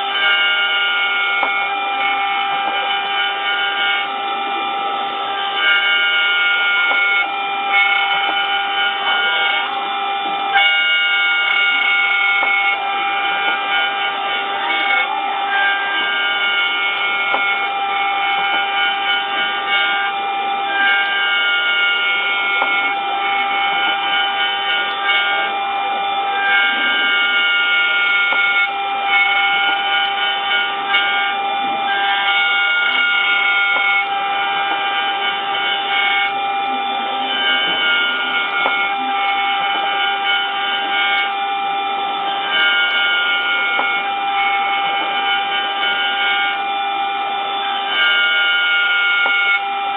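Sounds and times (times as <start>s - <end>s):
cnc router high-pitched whine: 0.0s - 49.9s.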